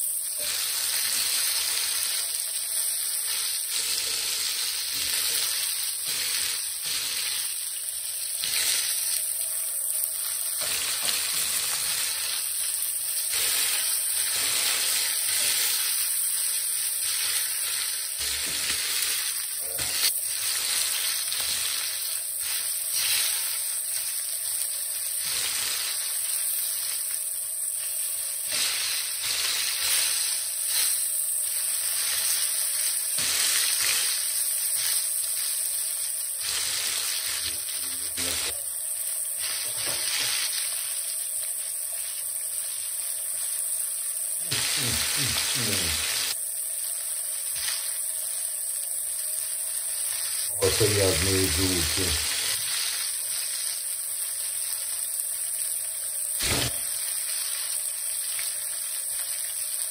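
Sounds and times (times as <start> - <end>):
fish frying in hot oil: 0.0 - 59.9.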